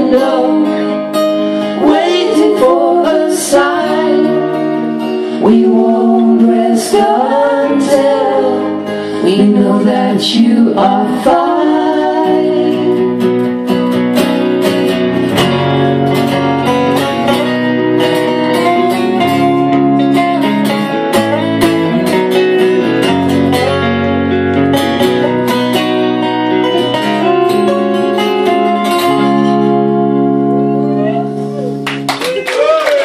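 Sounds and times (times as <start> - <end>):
acoustic and electric guitars strumming: 0.0 - 32.4.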